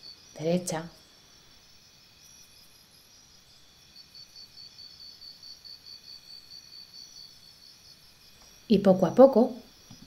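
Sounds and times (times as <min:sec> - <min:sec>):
insect trill: 0:00.0 - 0:10.0
pulsing insect chirp: 0:00.0 - 0:10.0.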